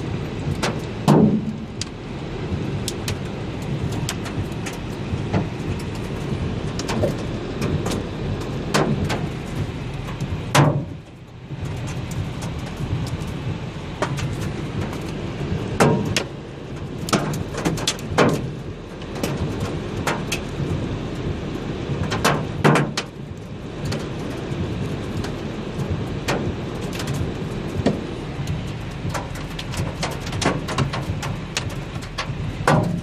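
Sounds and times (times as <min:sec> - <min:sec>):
hail and rain falling: 0:00.0 - 0:33.0
hailstones knocking hard surfaces: 0:02.5 - 0:20.9, 0:21.9 - 0:33.0.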